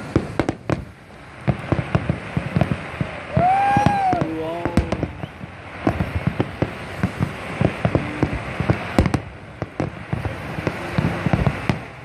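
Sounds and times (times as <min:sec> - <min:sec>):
fireworks bangs and crackles: 0:00.0 - 0:12.0
steady hiss: 0:00.0 - 0:12.0.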